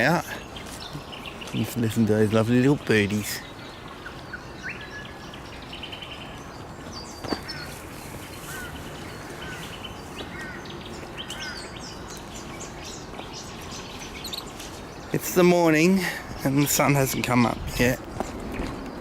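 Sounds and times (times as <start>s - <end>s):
birds chirping and trilling: 0.0s - 19.0s
steady background hiss: 0.0s - 19.0s.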